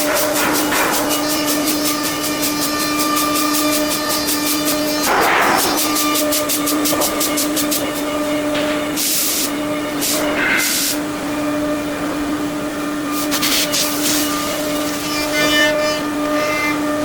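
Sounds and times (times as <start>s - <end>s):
machine whining: 0.0s - 17.0s.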